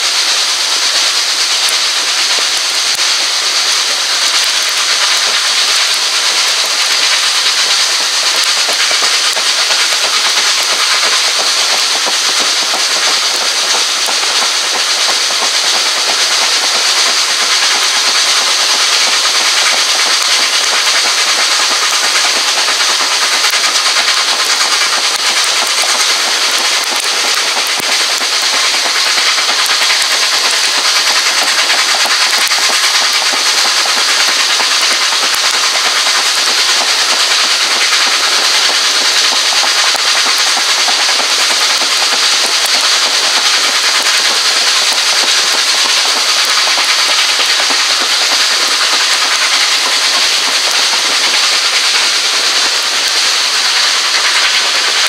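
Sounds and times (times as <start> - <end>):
train rushing hiss: 0.0 - 55.0.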